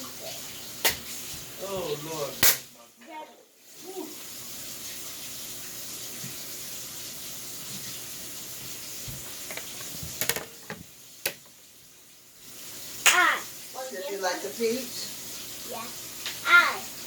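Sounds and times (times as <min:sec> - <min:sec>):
water running from a tap: 0:00.0 - 0:17.0.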